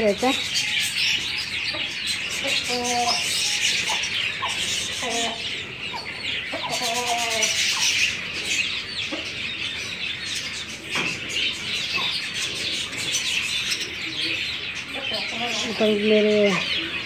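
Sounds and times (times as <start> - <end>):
budgerigars chirping: 0.0 - 17.0
chickens clucking: 0.0 - 17.0.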